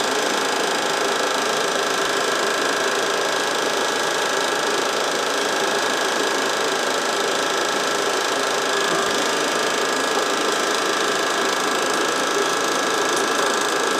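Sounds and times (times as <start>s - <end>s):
film projector whirring: 0.0s - 13.9s.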